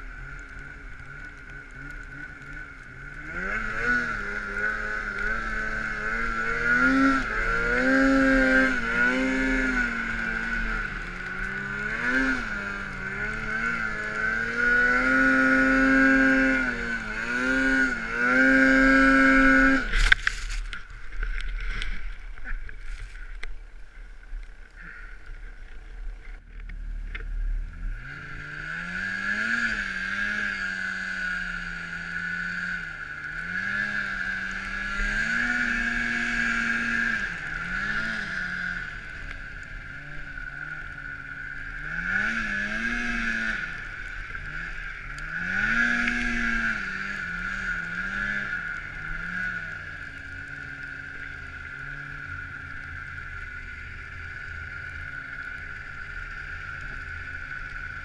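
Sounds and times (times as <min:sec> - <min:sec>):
snowmobile engine revving: 0:00.0 - 0:22.5, 0:27.5 - 0:58.0
steady high whine: 0:00.0 - 0:58.0.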